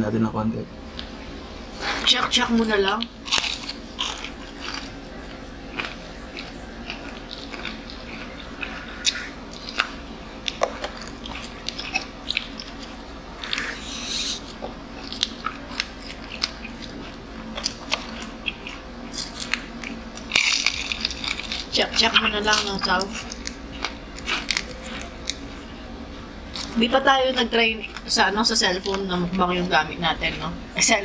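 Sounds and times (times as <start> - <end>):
chewing crispy fried chicken: 1.8 - 29.7.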